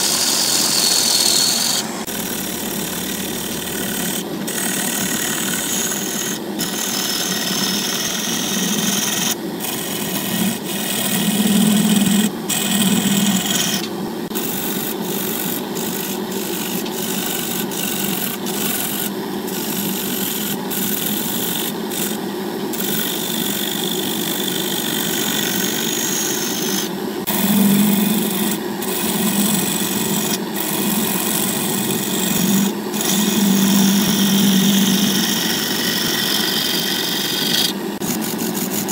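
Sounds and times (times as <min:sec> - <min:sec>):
wood lathe turning tool scraping: 0:00.0 - 0:38.9.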